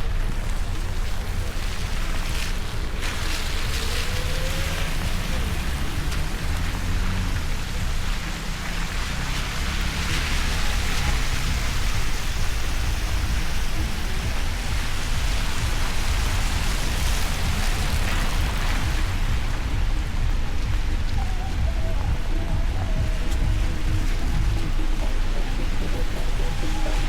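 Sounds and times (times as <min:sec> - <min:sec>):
low rumble: 0:00.0 - 0:27.0
steady rain falling: 0:00.0 - 0:27.0.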